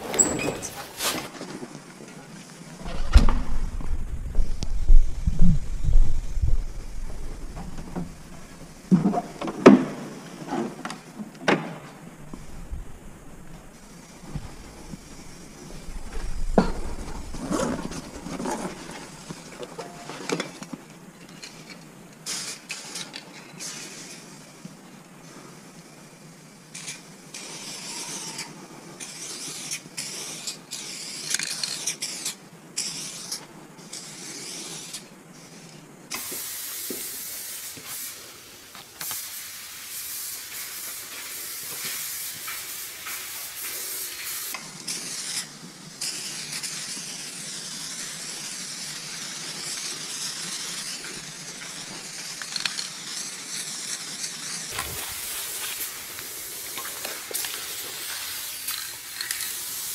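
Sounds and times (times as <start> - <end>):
spray paint cans hissing: 0.0 - 59.9.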